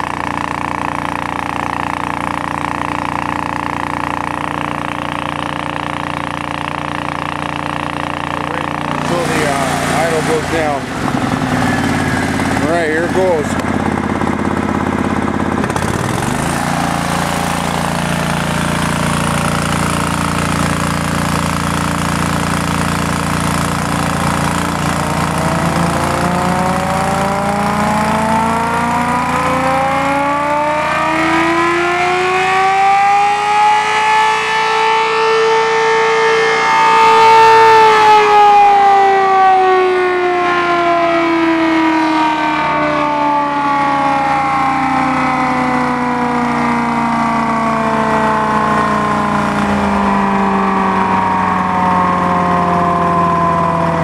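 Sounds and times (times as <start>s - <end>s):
air raid siren wailing: 0.0s - 54.0s.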